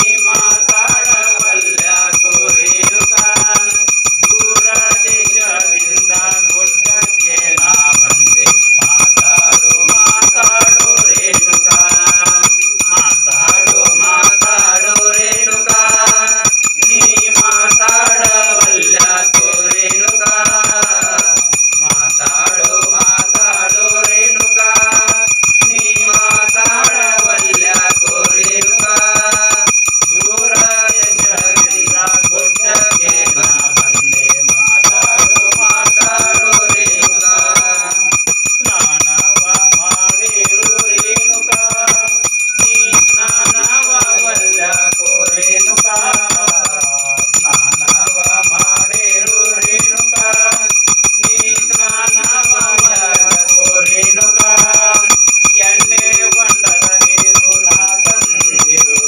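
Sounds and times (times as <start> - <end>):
devotional singing: 0.0 - 59.0
hand bell ringing rapidly: 0.0 - 59.0.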